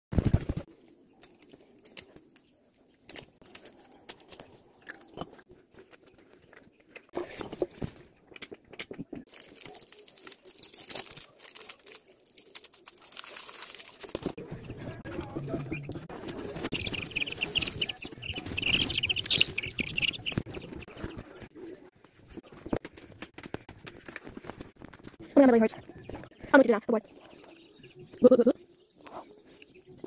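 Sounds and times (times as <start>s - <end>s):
close chewing and crunching: 0.7s - 26.4s.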